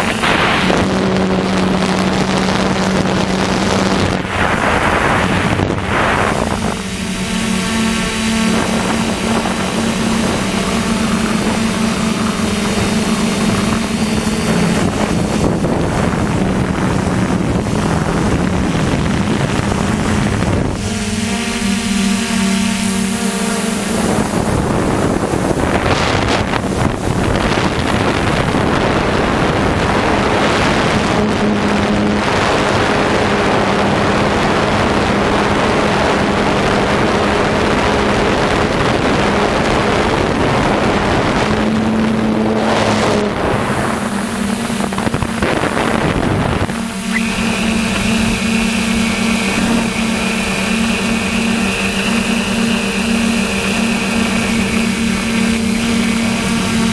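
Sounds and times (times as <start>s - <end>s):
quadcopter motors humming: 0.0s - 56.9s
wind noise on microphone: 0.0s - 56.9s.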